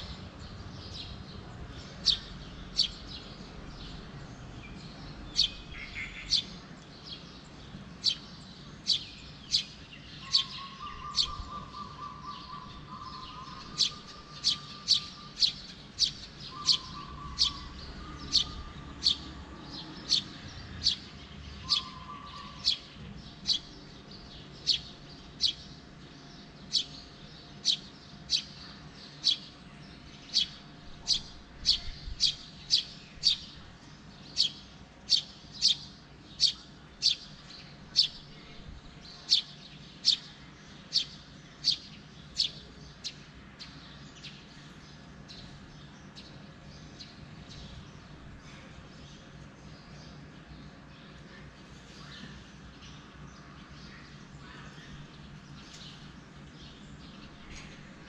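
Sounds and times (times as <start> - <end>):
small bird chirping: 0.0 - 48.2.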